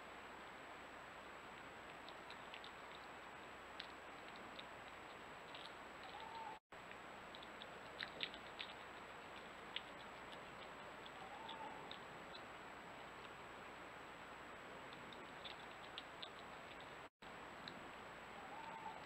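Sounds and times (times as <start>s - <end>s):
microphone hiss and whine: 0.0s - 19.0s
fox chewing food: 1.6s - 13.8s, 14.8s - 17.8s.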